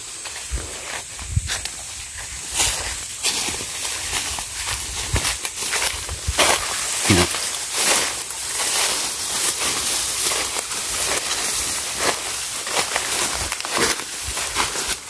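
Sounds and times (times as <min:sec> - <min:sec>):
footsteps in undergrowth: 0:00.0 - 0:15.0
grass and branches rustling: 0:00.0 - 0:15.0.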